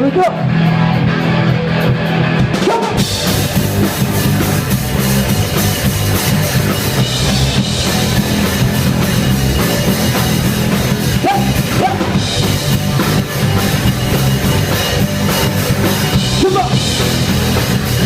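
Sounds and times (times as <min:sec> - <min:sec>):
drum kit beat: 0:00.0 - 0:18.0
instrumental rock band: 0:00.0 - 0:18.0.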